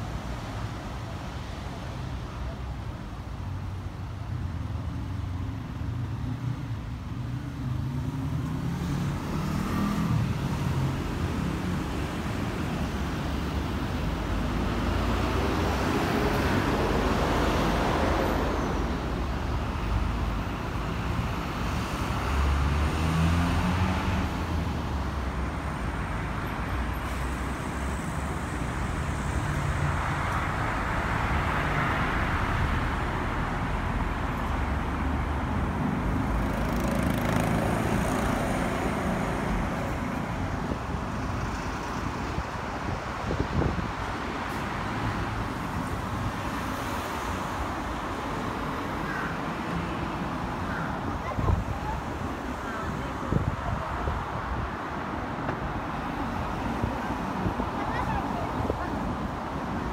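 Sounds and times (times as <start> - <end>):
cars and heavy vehicles passing: 0.0 - 59.9.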